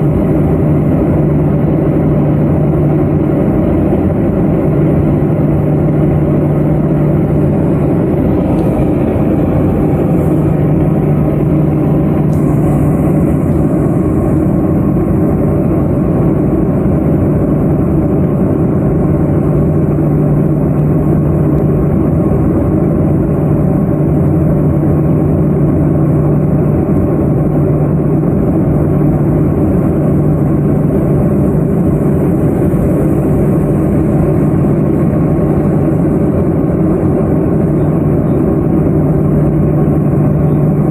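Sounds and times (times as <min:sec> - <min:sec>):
turboprop engines droning: 0:00.0 - 0:40.9.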